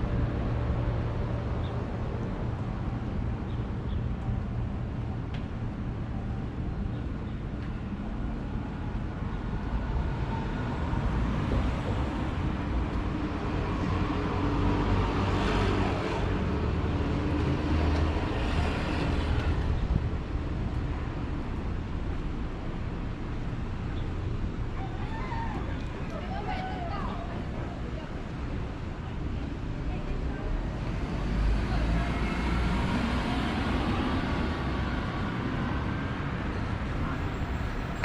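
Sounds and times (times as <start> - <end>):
street traffic rumble: 0.0 - 38.0.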